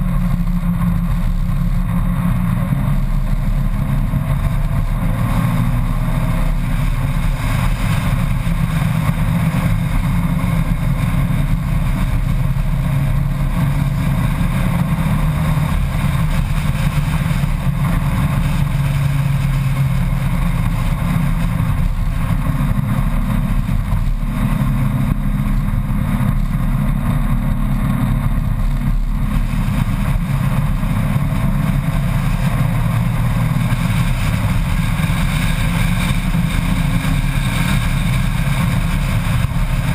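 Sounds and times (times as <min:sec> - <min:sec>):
motorcycle engine drone: 0:00.0 - 0:39.9
wind rushing across microphone: 0:00.0 - 0:39.9.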